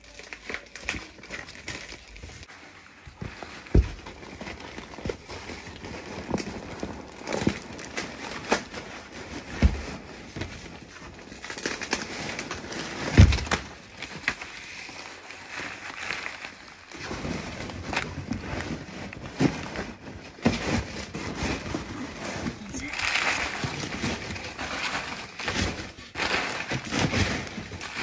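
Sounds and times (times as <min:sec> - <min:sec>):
bubble wrap rustling and crinkling: 0:00.0 - 0:28.0.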